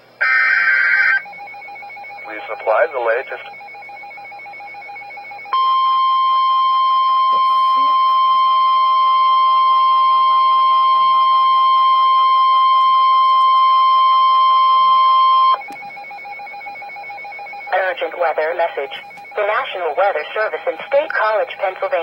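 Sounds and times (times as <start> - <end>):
steady emergency alert tone: 0.2 - 22.0.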